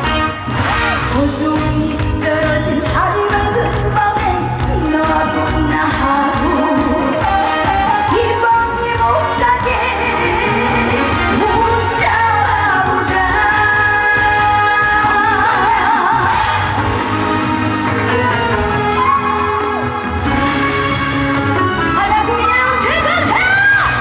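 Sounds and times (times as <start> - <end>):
woman singing with vibrato: 0.0 - 20.3, 21.7 - 24.0
band playing steady beat: 0.0 - 24.0.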